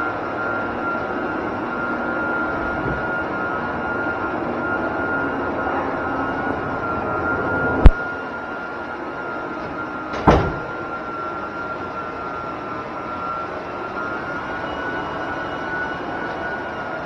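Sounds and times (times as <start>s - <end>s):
floor burnisher running: 0.0s - 17.0s.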